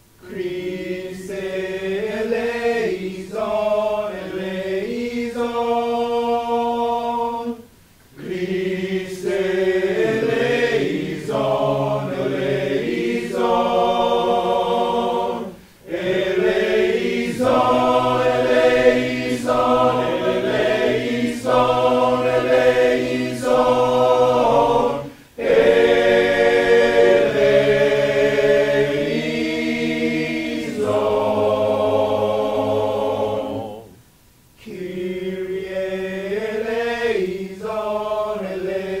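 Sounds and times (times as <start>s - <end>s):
men's choir singing a cappella: 0.2s - 34.0s, 34.6s - 39.0s.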